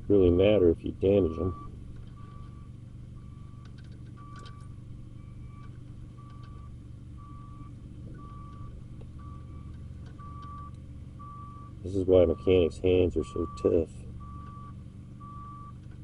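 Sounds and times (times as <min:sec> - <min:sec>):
low steady hum: 0:00.0 - 0:16.0
electronic warning beeper: 0:01.2 - 0:15.8.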